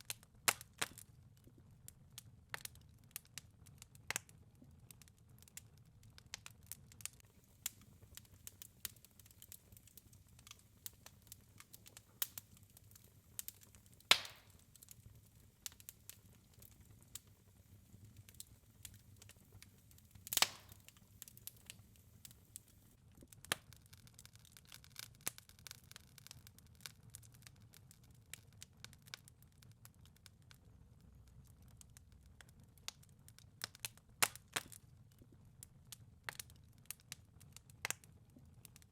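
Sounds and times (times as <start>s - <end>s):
wood fire crackling: 0.0s - 38.9s
fire pops: 2.5s - 30.6s, 31.4s - 38.9s.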